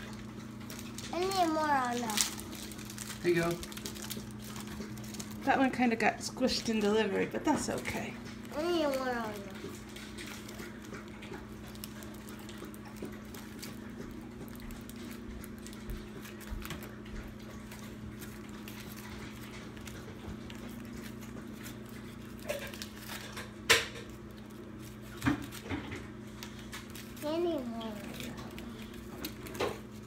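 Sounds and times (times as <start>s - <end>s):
foil wrapper crinkling: 0.0s - 30.0s.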